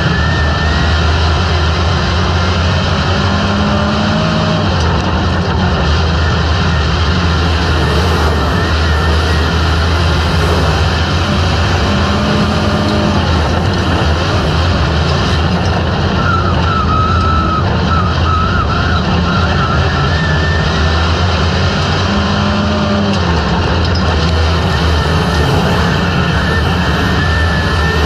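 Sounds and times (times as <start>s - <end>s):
race car engines: 0.0s - 28.0s
wavering high whine: 0.0s - 28.0s.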